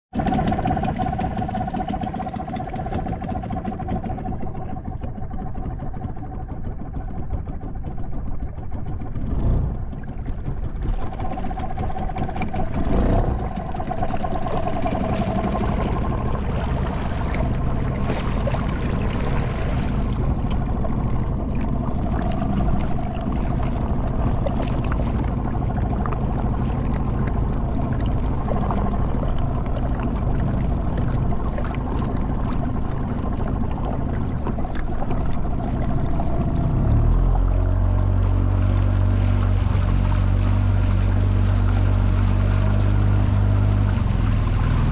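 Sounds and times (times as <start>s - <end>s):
motorboat engine running: 0.1s - 44.9s.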